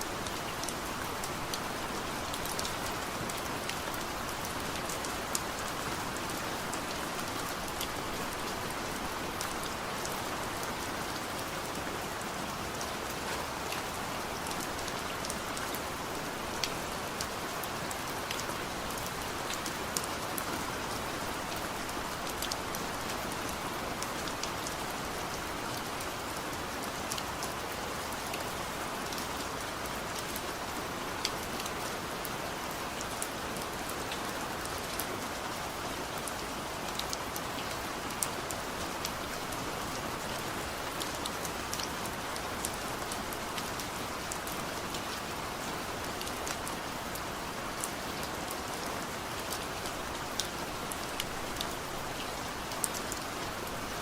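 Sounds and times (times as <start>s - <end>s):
heavy rain falling: 0.0s - 54.0s
raindrops ticking on a surface: 0.0s - 54.0s.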